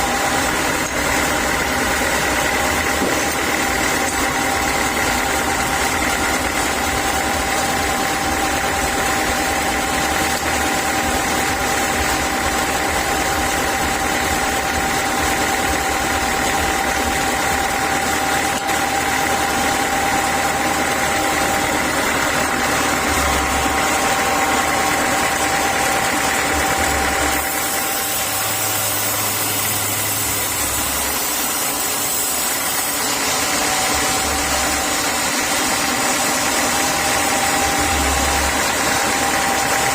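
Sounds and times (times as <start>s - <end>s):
saw whine: 0.0s - 39.9s
sawmill machinery drone: 0.0s - 39.9s.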